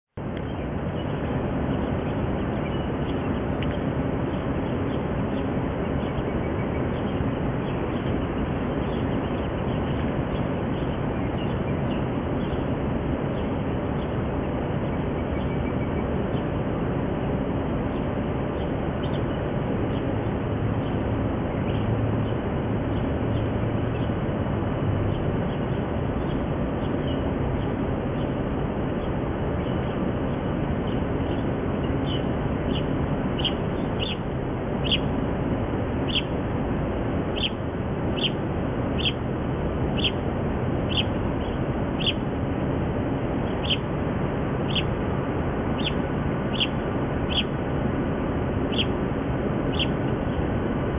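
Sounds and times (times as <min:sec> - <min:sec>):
ducklings peeping: 0:00.4 - 0:17.1, 0:17.9 - 0:24.3, 0:25.1 - 0:42.4, 0:43.3 - 0:50.6.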